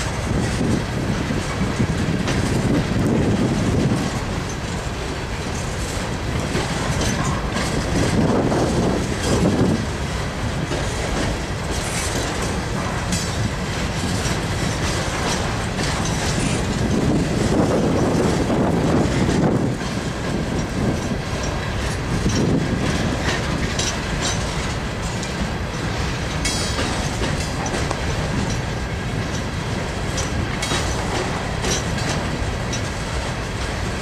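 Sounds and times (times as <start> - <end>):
train wheels rumbling on rail: 0.0 - 34.0
wheels clicking over track: 0.0 - 34.0.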